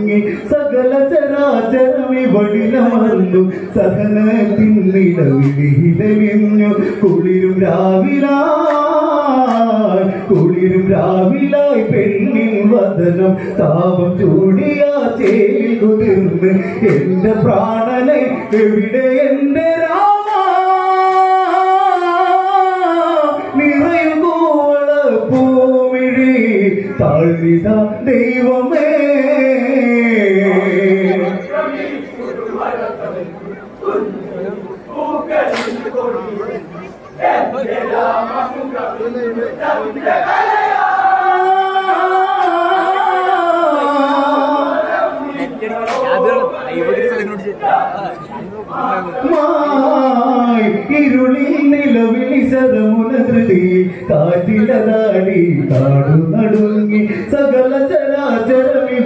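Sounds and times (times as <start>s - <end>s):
group of voices singing: 1.7s - 59.0s.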